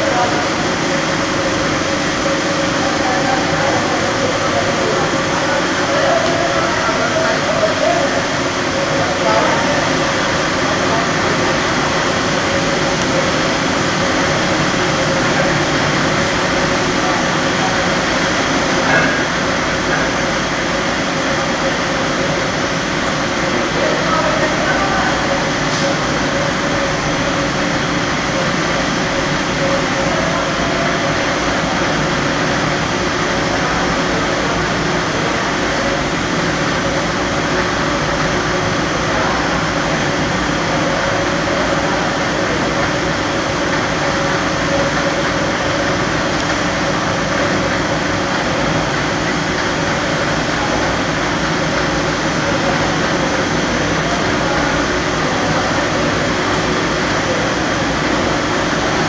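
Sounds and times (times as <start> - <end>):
steady machine noise: 0.0 - 59.0.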